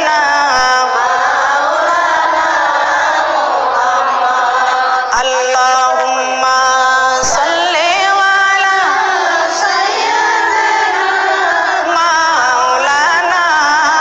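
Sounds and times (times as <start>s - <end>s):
woman singing a devotional chant: 0.0s - 14.0s.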